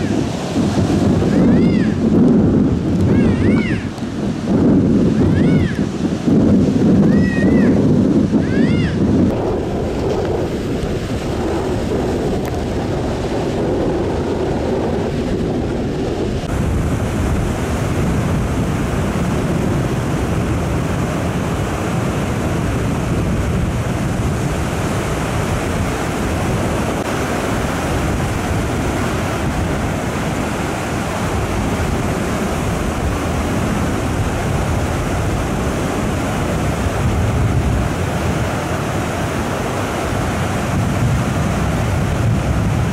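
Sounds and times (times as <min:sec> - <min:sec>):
surf breaking on a beach: 0:00.0 - 0:42.9
wind buffeting the microphone: 0:00.0 - 0:42.9.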